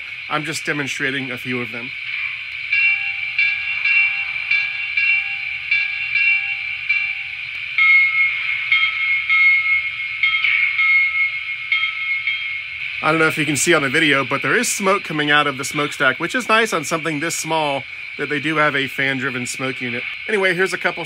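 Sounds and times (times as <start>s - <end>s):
locomotive bell ringing: 0.0s - 21.0s
steady hiss: 0.0s - 21.0s.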